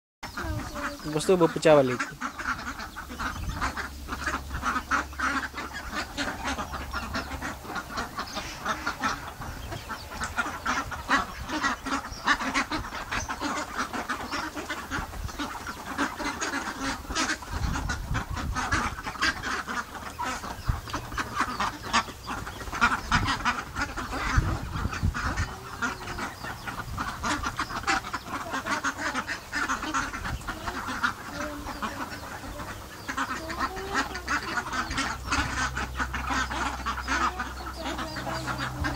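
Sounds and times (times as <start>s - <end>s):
ducks quacking: 0.2s - 38.9s.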